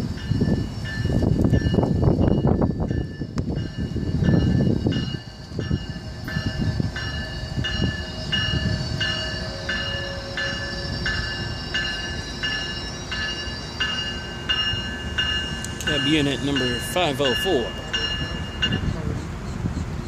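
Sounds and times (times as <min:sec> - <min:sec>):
low train rumble: 0:00.0 - 0:20.0
train bell ringing: 0:00.0 - 0:20.0.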